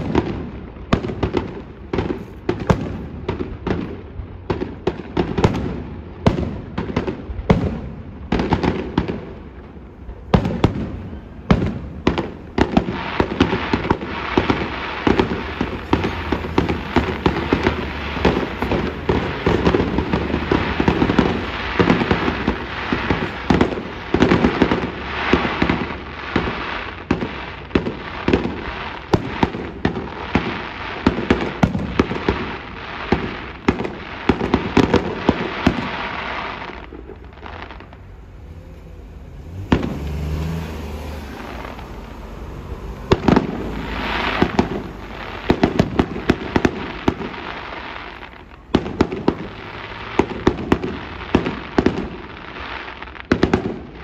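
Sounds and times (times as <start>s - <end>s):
fireworks bangs: 0.0s - 54.0s
fireworks popping and crackling: 0.0s - 54.0s.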